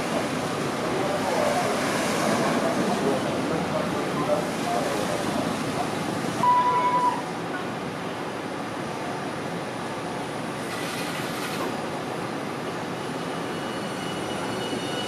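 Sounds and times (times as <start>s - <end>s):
street noise: 0.0s - 15.0s
tram running hum: 0.0s - 15.0s.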